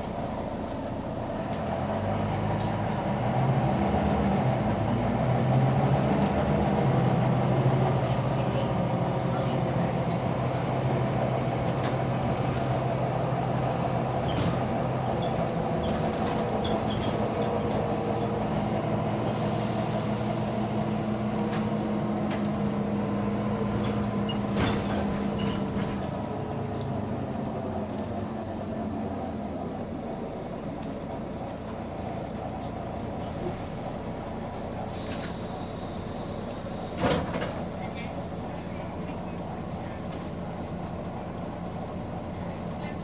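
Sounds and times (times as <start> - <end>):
bus engine drone with rattles: 0.0 - 43.0.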